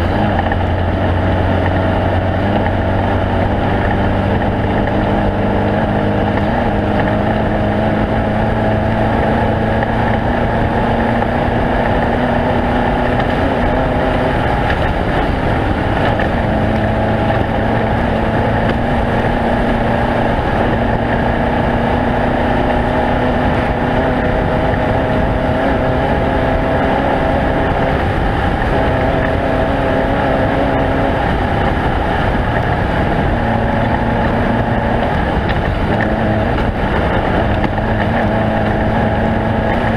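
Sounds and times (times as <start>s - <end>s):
race vehicle engine running: 0.0s - 39.9s
rough driving noise: 0.0s - 39.9s.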